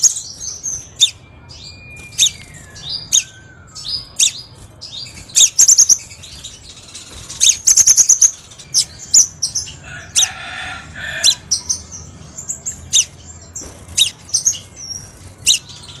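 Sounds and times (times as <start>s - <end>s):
bird chips and trills: 0.0s - 16.0s.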